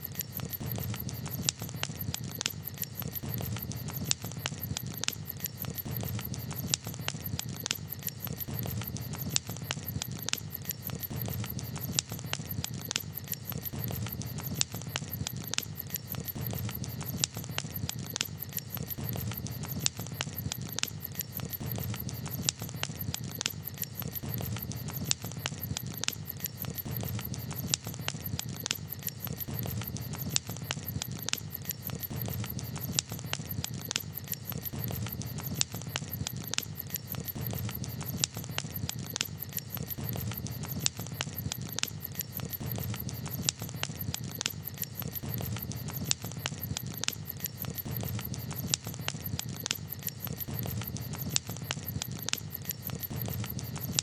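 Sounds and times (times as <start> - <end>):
campfire crackling and popping: 0.0 - 54.0
low fire rumble: 0.1 - 54.0.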